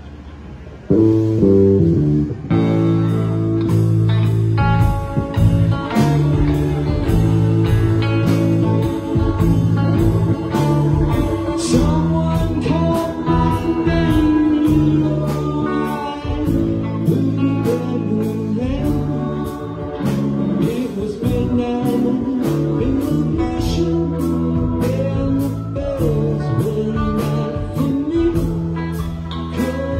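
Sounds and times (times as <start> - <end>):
live rock band playing: 0.0 - 29.9
steady drum beat: 2.8 - 29.9.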